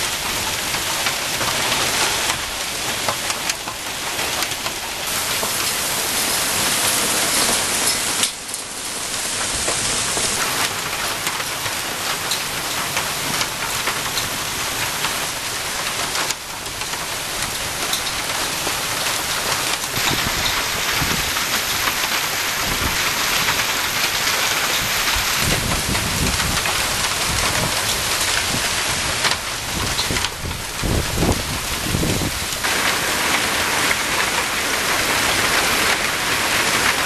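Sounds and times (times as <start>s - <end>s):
hailstones ticking: 0.0s - 37.0s
heavy rain hissing: 0.0s - 37.0s.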